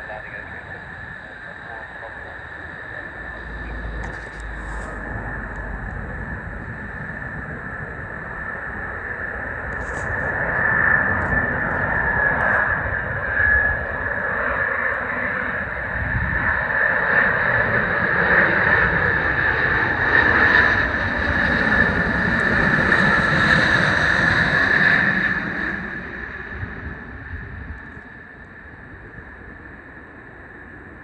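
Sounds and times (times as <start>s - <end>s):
jet engines roaring at takeoff: 0.0s - 31.0s.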